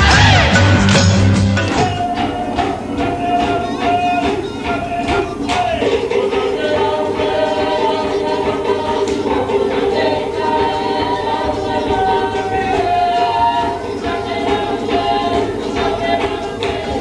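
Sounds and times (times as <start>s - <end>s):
group singing in harmony: 0.0s - 17.0s
percussive beat: 0.0s - 17.0s.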